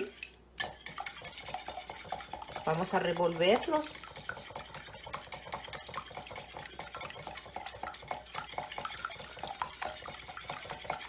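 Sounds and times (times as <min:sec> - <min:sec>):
whisk beating eggs in a bowl: 0:00.0 - 0:11.0.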